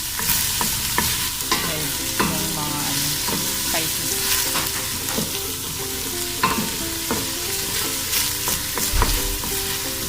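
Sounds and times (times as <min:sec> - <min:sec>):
onion sizzling in oil: 0:00.0 - 0:10.0
spoon stirring and scraping pan: 0:00.0 - 0:10.0.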